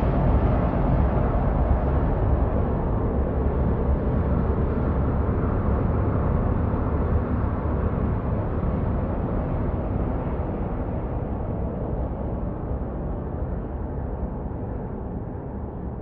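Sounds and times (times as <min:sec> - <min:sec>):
dark ambient drone: 0:00.0 - 0:16.0.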